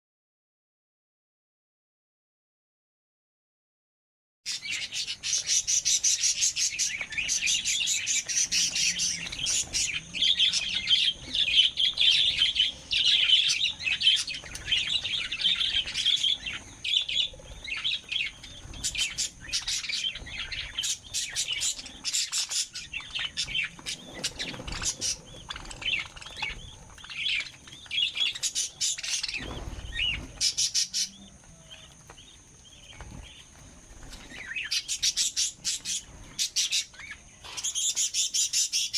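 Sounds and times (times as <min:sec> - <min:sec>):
lovebirds chattering: 0:04.5 - 0:38.9.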